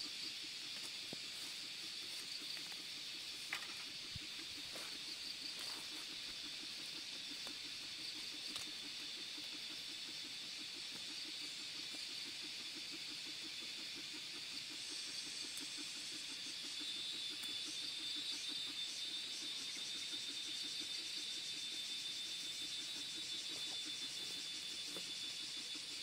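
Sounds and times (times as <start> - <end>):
high-pitched insect drone: 0.0 - 26.0.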